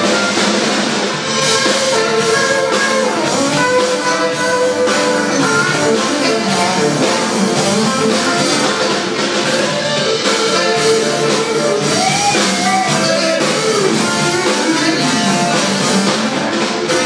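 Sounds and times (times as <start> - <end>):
electric guitar: 0.0 - 17.0
jazz band playing: 0.0 - 17.0.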